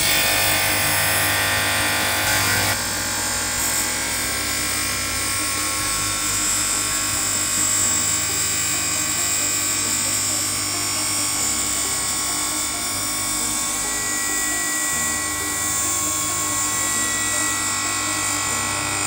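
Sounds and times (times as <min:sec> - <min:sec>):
stone polishing machine whine: 0:00.0 - 0:19.0.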